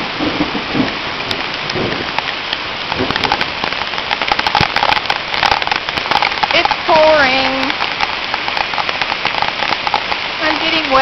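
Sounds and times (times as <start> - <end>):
rain hissing: 0.0 - 11.0
raindrops ticking on a surface: 0.0 - 11.0.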